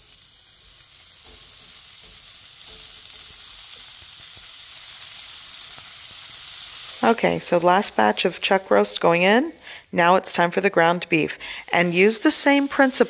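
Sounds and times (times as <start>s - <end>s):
meat sizzling in hot oil: 0.0s - 9.8s, 10.9s - 13.0s.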